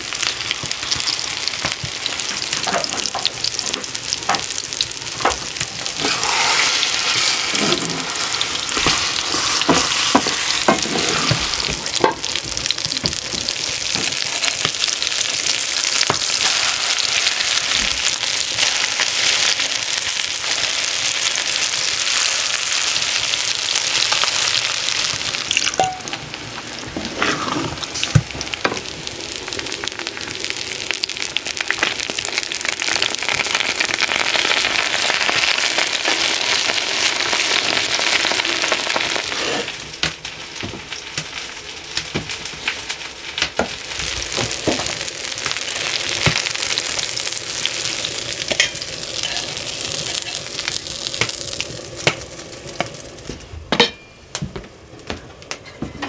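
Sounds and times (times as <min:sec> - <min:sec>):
food sizzling in a pan: 0:00.0 - 0:53.8.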